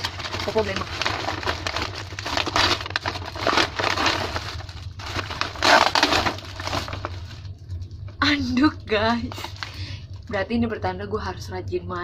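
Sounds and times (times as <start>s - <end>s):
wrapping paper tearing and crumpling: 0.0s - 8.6s, 9.3s - 10.3s.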